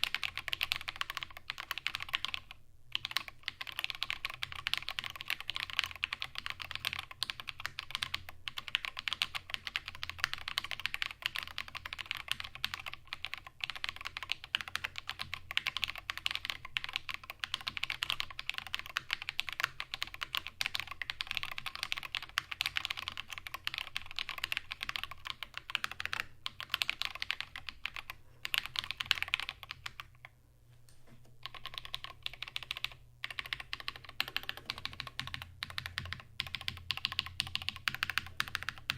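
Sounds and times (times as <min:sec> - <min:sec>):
fast typing on mechanical keyboard: 0:00.0 - 0:30.3, 0:31.4 - 0:38.9.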